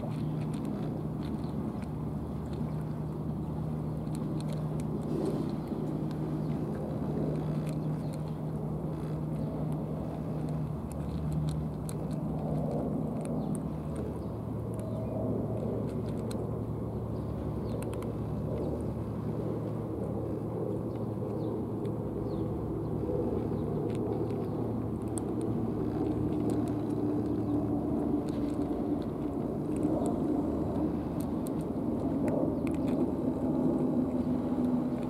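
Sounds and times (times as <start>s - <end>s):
cat crunching dry food: 0.0s - 35.0s.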